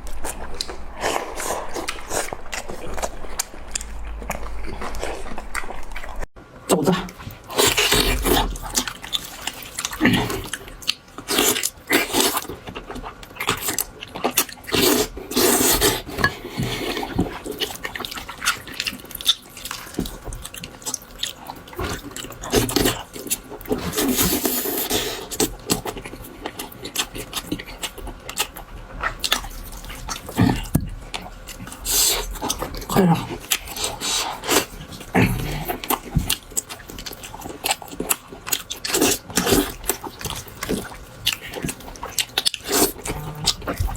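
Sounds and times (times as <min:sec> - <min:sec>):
person eating noisily: 0:00.0 - 0:43.9.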